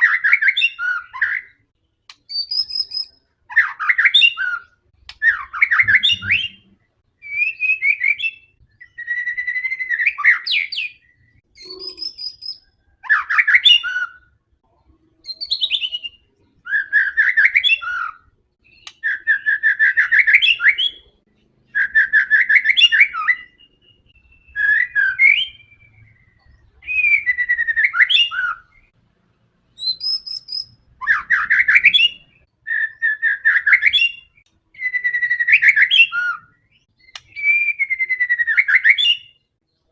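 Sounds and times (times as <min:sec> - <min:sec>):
songbird singing trills and whistles: 0:00.0 - 0:29.0, 0:29.8 - 0:39.9.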